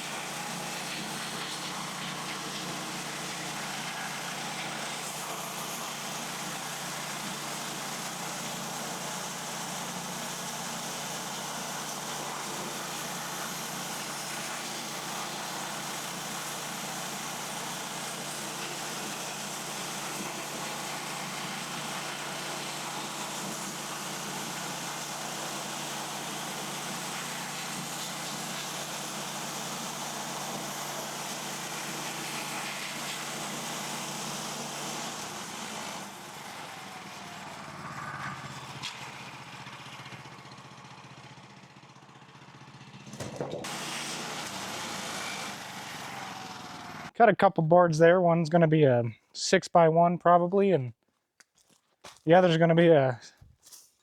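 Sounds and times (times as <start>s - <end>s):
bandsaw sawmill cutting log: 0.0s - 41.8s, 42.6s - 47.2s.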